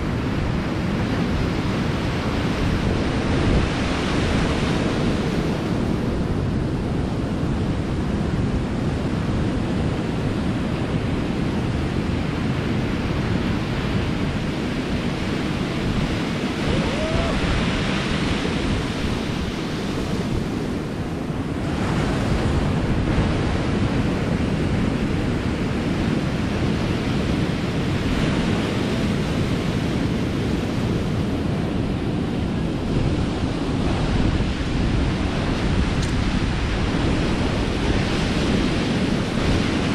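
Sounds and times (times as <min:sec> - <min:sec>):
ocean surf breaking on rocks: 0:00.0 - 0:39.9
wind buffeting microphone: 0:00.0 - 0:39.9.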